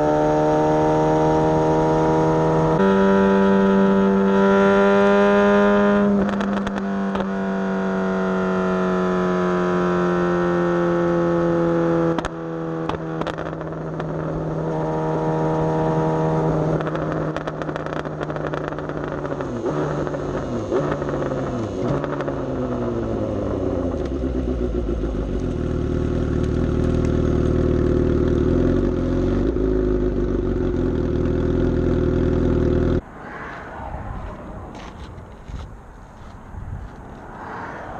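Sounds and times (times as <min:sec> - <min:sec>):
motorcycle engine while riding: 0:00.0 - 0:37.9.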